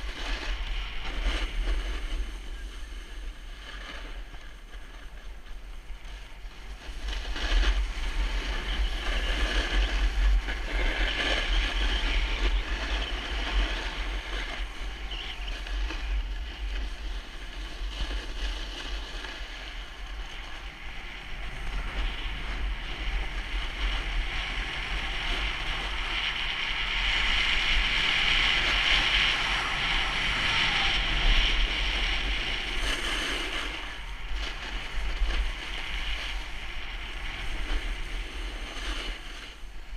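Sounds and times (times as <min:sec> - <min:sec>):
skis scraping over hard snow: 0:00.0 - 0:39.9
wind buffeting microphone: 0:00.0 - 0:39.9.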